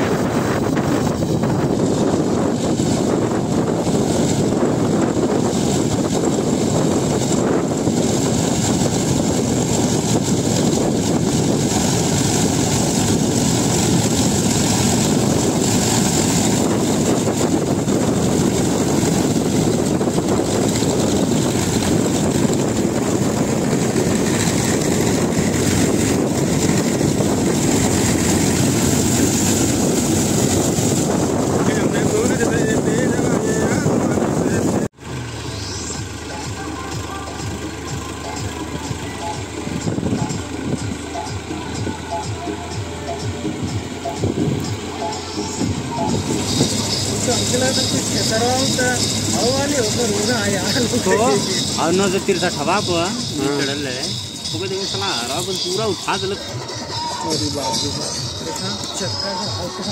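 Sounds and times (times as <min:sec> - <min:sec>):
harvester machinery drone: 0:00.0 - 0:59.9.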